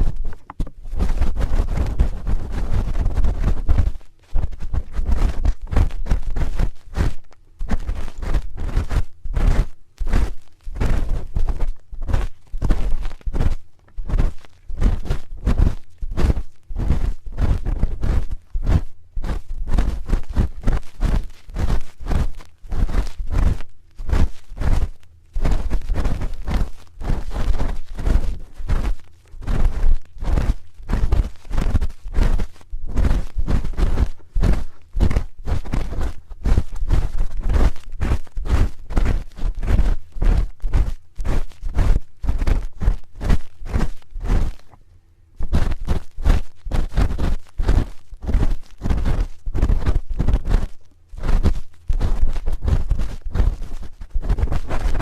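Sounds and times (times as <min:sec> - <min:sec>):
spoon scraping microphone: 0:00.0 - 0:44.8.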